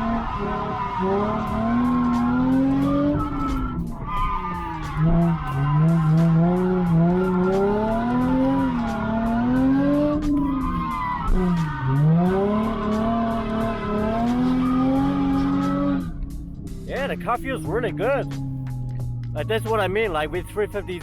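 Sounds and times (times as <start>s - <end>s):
car engine revving: 0.0s - 21.0s
tyres skidding: 0.0s - 21.0s.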